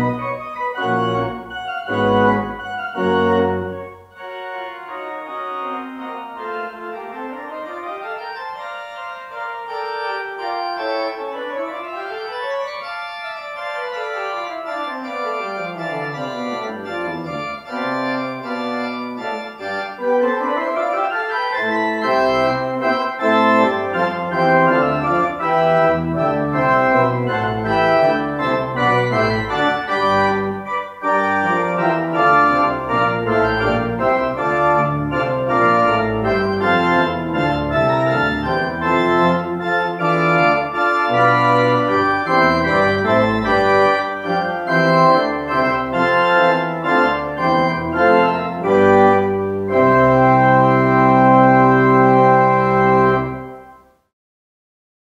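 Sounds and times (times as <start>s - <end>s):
pipe organ playing: 0.0s - 53.8s.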